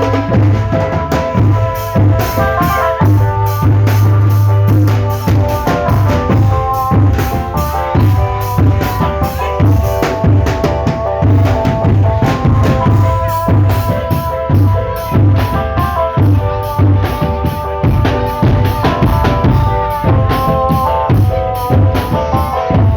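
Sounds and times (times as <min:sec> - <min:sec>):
bass drums beating: 0:00.0 - 0:22.9
melody of held notes: 0:00.0 - 0:22.9
snare drums beating: 0:00.0 - 0:22.9.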